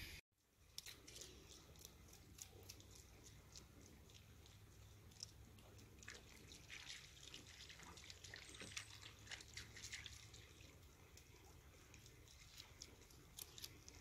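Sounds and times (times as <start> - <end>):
ripples lapping on water: 0.7 - 14.0.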